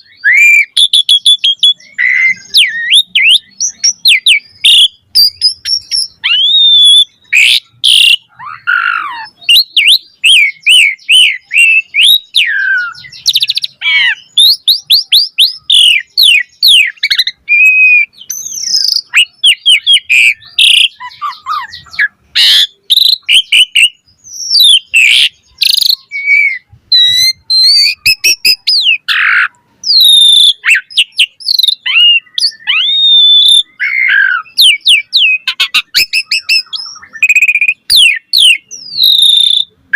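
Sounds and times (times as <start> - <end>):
starling singing varied song: 0.0 - 39.9.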